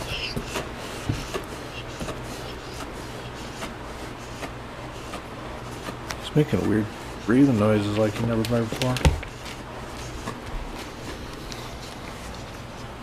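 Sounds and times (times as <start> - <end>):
dog breathing noises: 0.0 - 13.0
steady low hum: 0.0 - 13.0.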